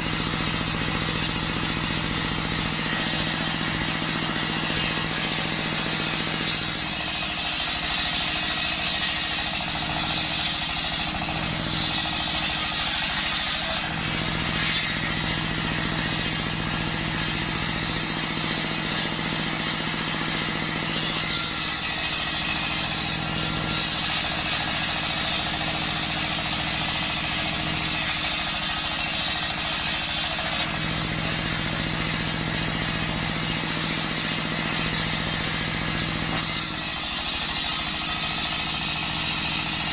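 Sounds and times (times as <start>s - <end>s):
engine and spinning saw blade hum: 0.0s - 39.9s
saw blade hissing through wood: 0.0s - 39.9s.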